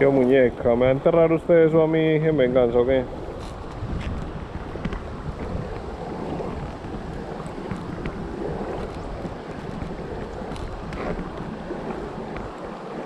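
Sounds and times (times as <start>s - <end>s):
stream rushing: 0.0s - 13.0s
wind on microphone: 0.0s - 13.0s.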